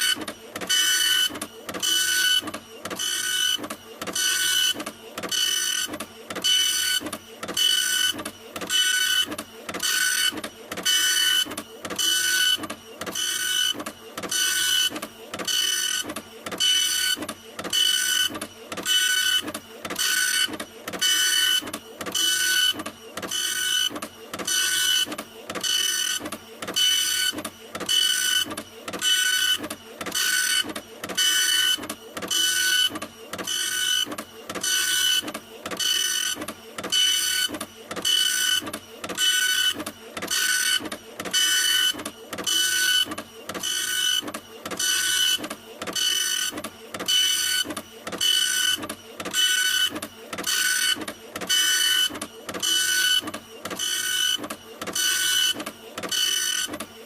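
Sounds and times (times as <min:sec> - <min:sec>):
printer running: 0:00.0 - 0:57.0.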